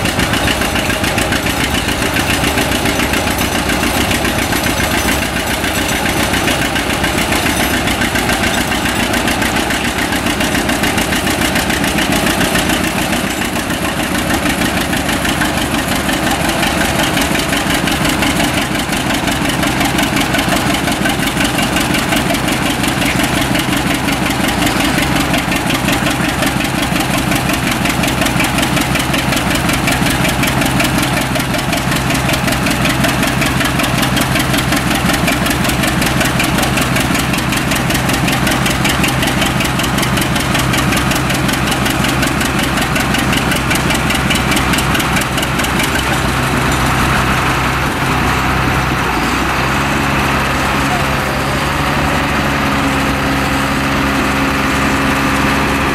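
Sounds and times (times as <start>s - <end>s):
tractor engine running under load: 0.0s - 55.9s.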